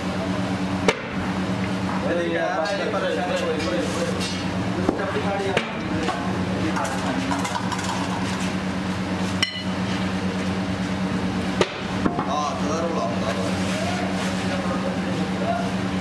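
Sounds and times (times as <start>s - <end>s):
foundry machinery hum: 0.0s - 16.0s
voices talking: 1.6s - 8.7s, 9.7s - 16.0s.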